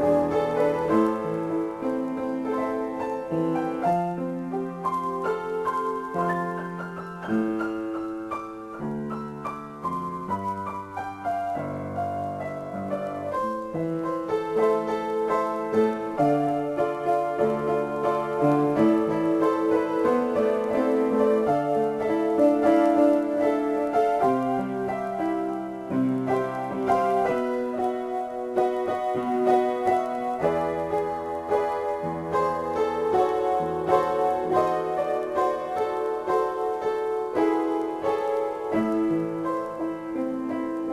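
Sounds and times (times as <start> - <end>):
solo piano improvisation: 0.0 - 40.9.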